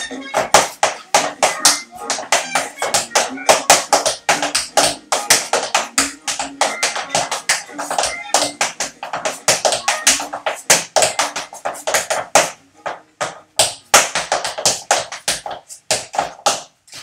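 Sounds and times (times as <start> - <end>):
tap shoes tapping on board: 0.2 - 17.0.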